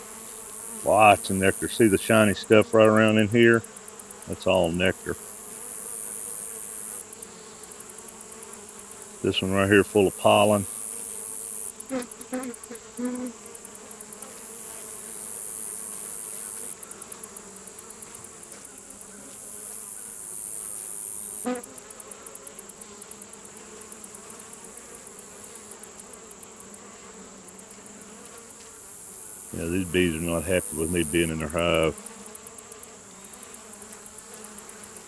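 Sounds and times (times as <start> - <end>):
bee flying close past: 0.0 - 35.0
honeybees buzzing: 0.0 - 35.0.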